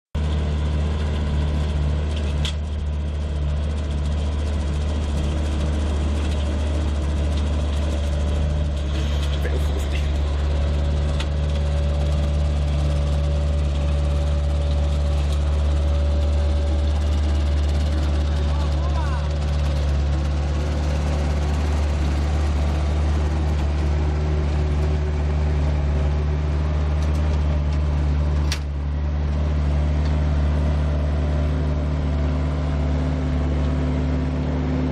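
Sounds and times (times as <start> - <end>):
loader engine droning: 0.2 - 34.9.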